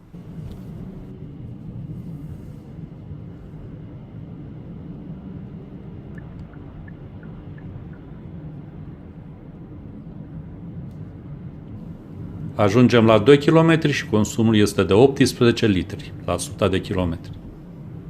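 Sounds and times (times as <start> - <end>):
car engine rumble: 0.0 - 18.0
road noise inside car: 0.0 - 18.0.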